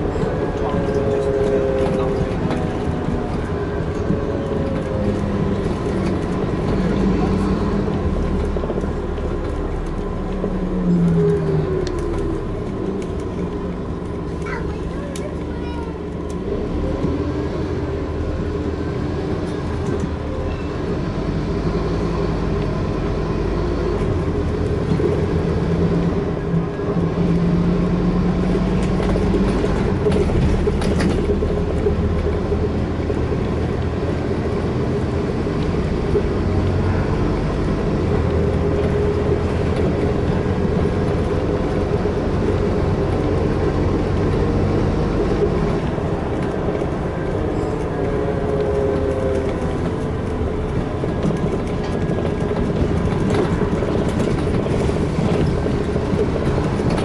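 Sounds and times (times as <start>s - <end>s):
bus diesel engine running: 0.0s - 57.0s
road and body rumble: 0.0s - 57.0s.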